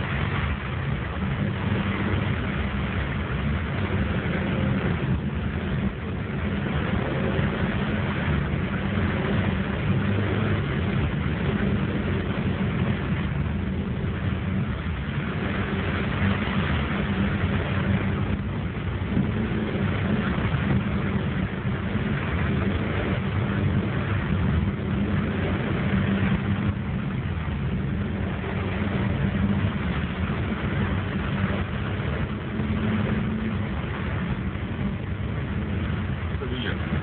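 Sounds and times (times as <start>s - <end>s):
car engine humming: 0.0s - 37.0s
rain and water spray hiss: 0.0s - 37.0s.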